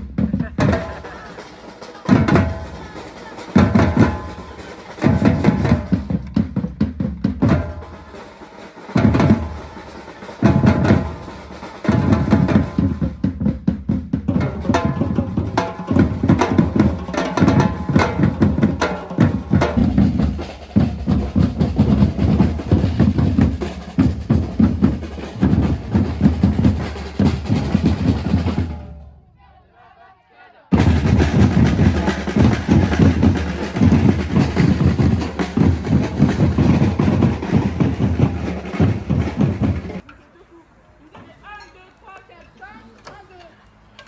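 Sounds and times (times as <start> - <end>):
drum ensemble playing: 0.0 - 29.2, 30.7 - 40.1.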